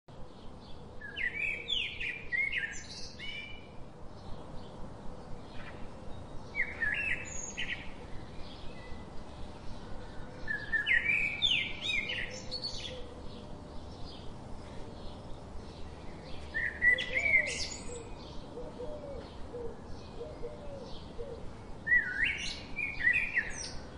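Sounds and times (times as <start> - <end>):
faint outdoor background: 0.0 - 23.9
songbird chirping: 0.1 - 23.9.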